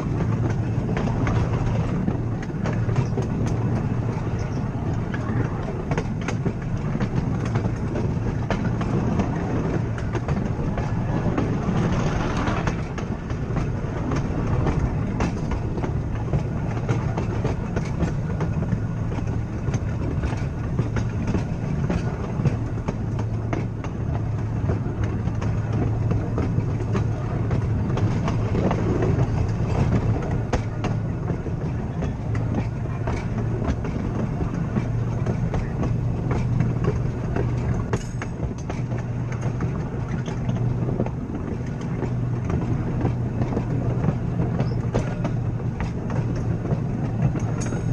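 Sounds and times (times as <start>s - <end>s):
electric tram hum: 0.0s - 47.9s
wheels clicking on rails: 0.0s - 47.9s.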